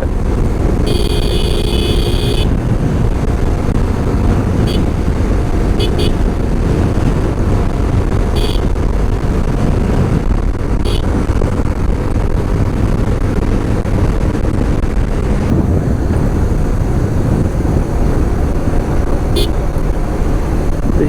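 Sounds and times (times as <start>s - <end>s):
motorcycle engine and road noise: 0.0s - 21.0s
wind rush: 0.0s - 21.0s.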